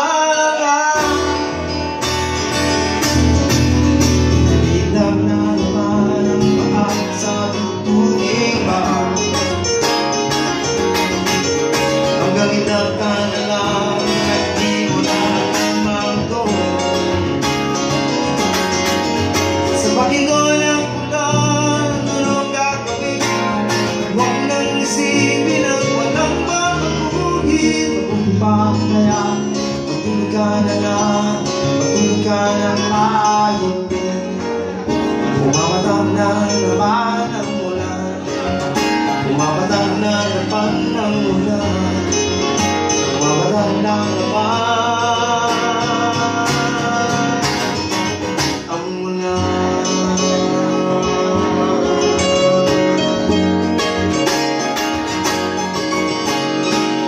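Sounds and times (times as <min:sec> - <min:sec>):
acoustic guitar: 0:00.0 - 0:57.0
electric keyboard: 0:00.0 - 0:57.0
man singing: 0:00.0 - 0:57.0.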